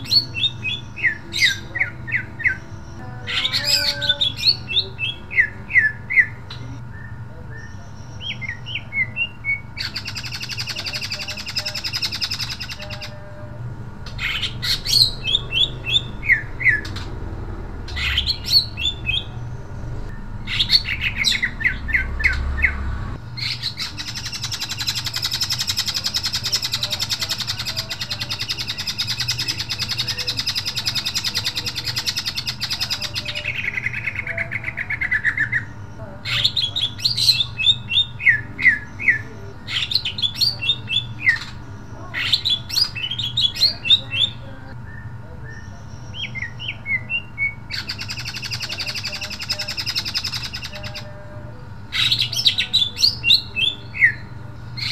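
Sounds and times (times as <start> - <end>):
bird chirping and trilling: 0.0 - 54.9.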